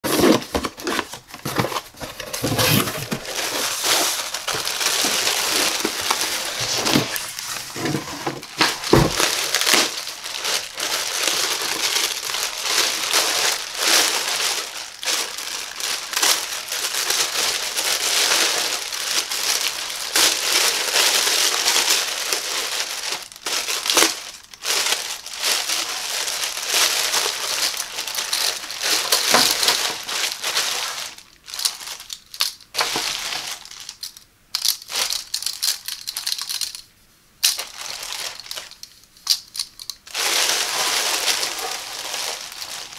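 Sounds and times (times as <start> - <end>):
plastic bag crinkling: 0.0 - 36.8, 37.4 - 42.9.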